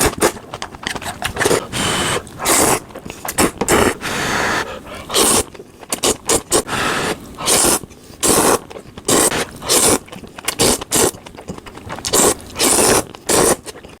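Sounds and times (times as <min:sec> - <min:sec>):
wet mouth clicks: 0:00.0 - 0:06.7, 0:07.4 - 0:14.0
noodles being slurped: 0:00.0 - 0:14.0.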